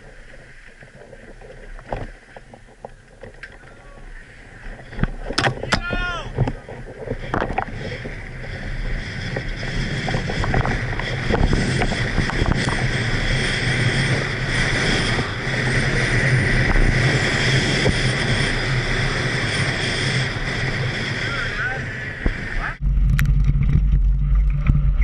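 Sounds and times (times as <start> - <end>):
bike rattling over bumps: 0.0 - 25.0
tyres rumbling on dirt: 0.0 - 25.0
wind rush on camera mic: 0.0 - 25.0.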